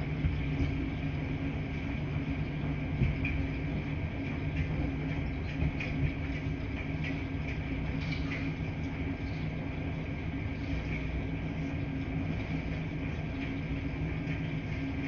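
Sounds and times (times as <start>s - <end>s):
laundry machines humming: 0.0s - 15.0s.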